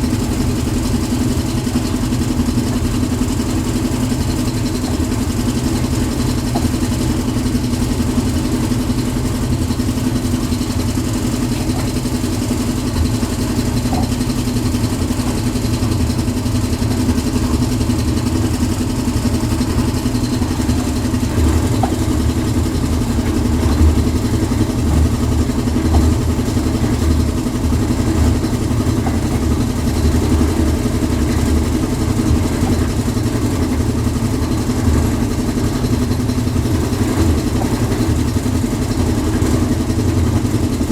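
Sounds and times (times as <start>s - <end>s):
concrete mixer engine running: 0.0s - 40.9s.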